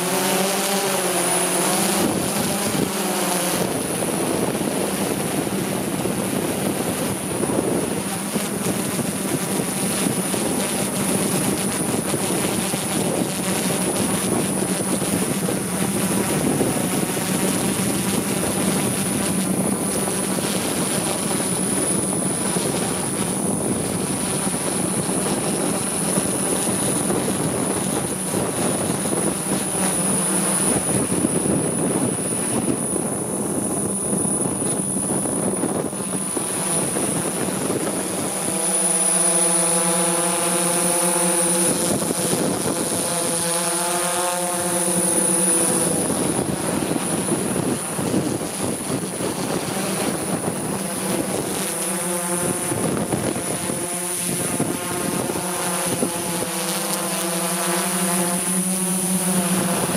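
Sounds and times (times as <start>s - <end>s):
helicopter rotor noise: 0.0s - 59.9s
high whine: 0.0s - 59.9s
steady hum: 0.0s - 59.9s.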